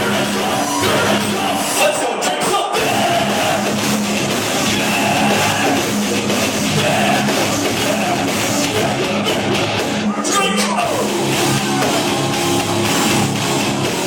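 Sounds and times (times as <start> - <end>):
heavy metal band playing: 0.0 - 14.0.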